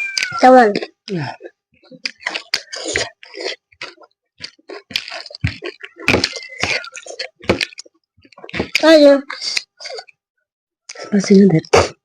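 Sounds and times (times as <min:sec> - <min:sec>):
chewing and mouth smacking: 0:00.1 - 0:10.2.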